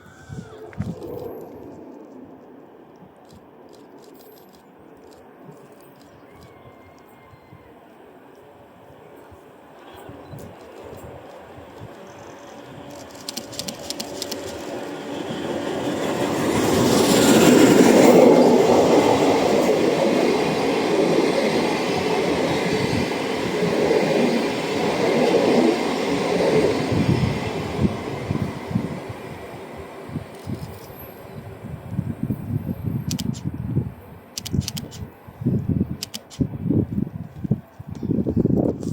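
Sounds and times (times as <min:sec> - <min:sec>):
steam locomotive passing: 0:00.0 - 0:34.4.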